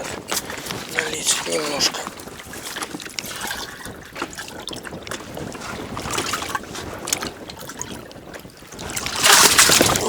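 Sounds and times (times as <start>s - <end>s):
water splashing and pouring: 0.0s - 10.0s
wind on microphone: 0.0s - 10.0s.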